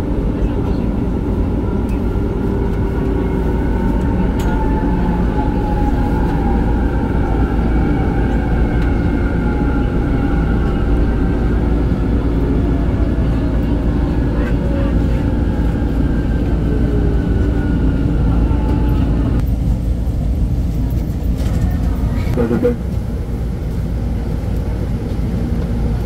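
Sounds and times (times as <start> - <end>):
train rumbling with whine: 0.0 - 26.0.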